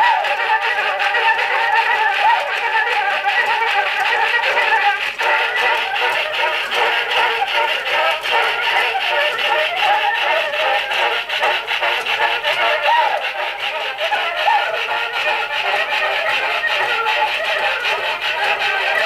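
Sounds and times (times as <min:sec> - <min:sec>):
thin phonograph music: 0:00.0 - 0:19.0.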